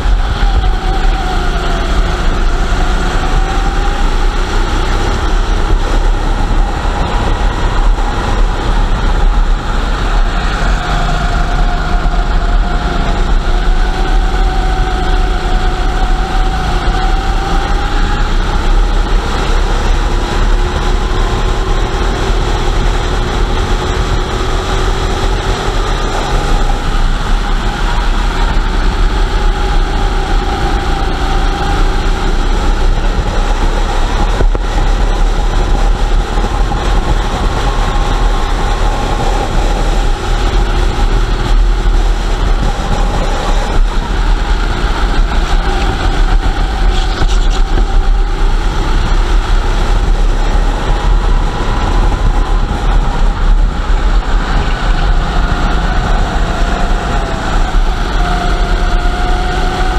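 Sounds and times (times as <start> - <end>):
go-kart engine revving: 0.0 - 59.9
low rumble: 0.0 - 59.9.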